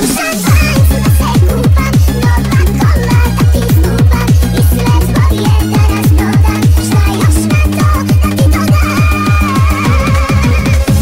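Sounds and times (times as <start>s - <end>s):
electronic dance-pop music: 0.0s - 11.0s
heavy kick drum: 0.5s - 11.0s.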